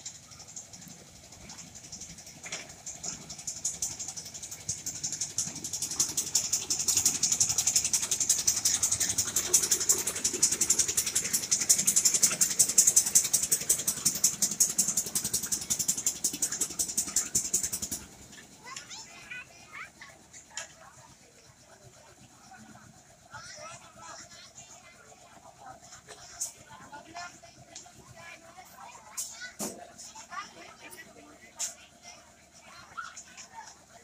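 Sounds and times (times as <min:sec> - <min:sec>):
train carriages rattling on track: 0:00.0 - 0:34.0.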